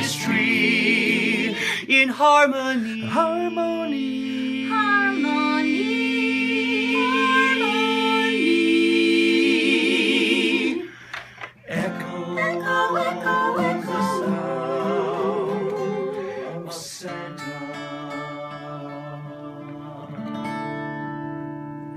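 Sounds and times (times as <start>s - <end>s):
singers in harmony with vibrato: 0.0s - 20.4s.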